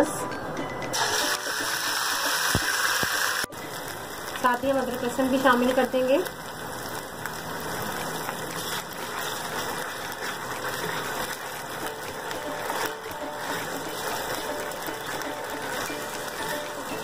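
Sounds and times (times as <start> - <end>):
paste sizzling in hot oil: 1.0 - 17.0.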